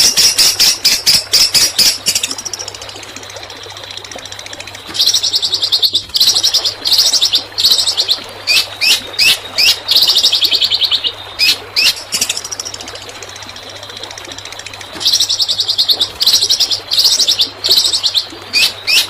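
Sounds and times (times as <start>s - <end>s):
songbird rattling trills: 0.0s - 3.1s, 3.8s - 19.0s.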